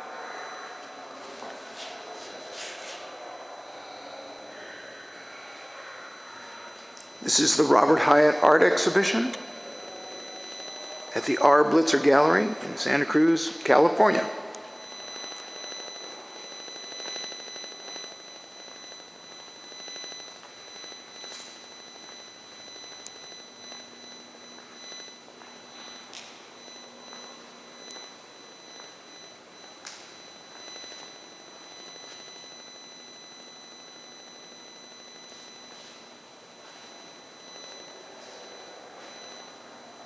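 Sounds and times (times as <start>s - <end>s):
high-pitched electronic whine: 3.2s - 40.0s.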